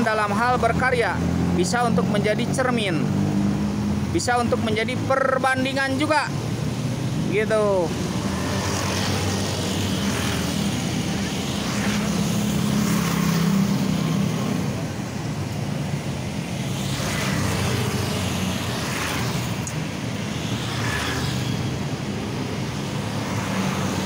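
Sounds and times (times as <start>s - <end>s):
vehicles passing by: 0.0s - 24.0s.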